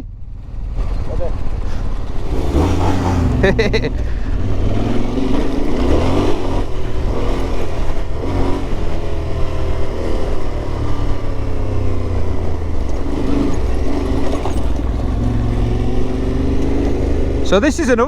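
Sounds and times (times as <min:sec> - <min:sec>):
motorcycle engine revving: 0:00.0 - 0:18.0
wind and ground noise: 0:00.0 - 0:18.0.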